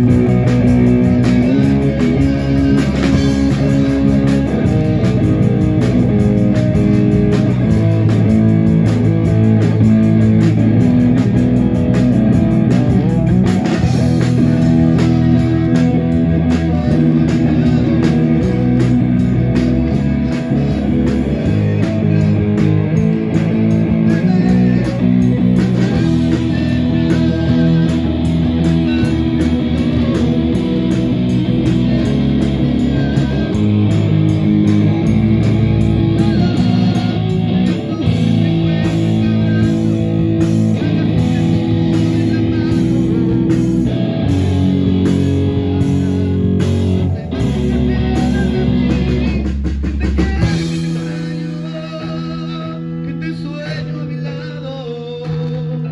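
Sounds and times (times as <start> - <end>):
bass guitar: 0.0 - 55.9
drum kit: 0.0 - 55.9
electric guitar: 0.0 - 55.9
keyboard: 0.0 - 55.9.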